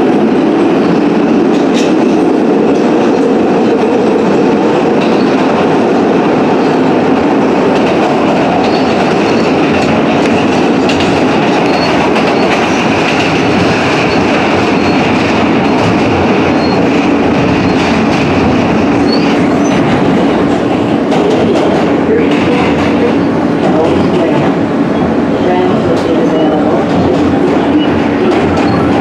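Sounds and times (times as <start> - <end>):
steel wheels on rail: 0.0 - 29.0.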